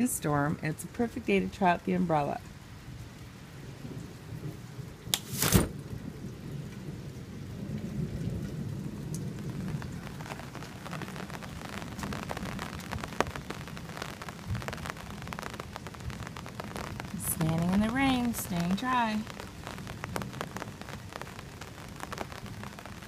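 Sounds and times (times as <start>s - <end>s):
rain pattering on an umbrella: 0.0s - 23.0s.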